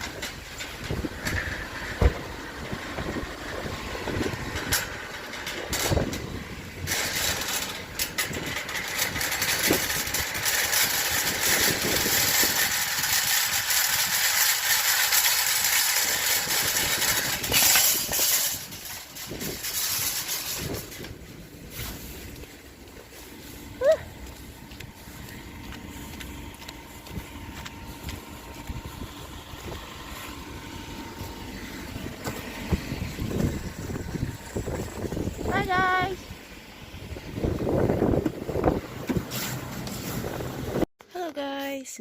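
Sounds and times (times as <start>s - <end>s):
car running: 0.0s - 40.9s.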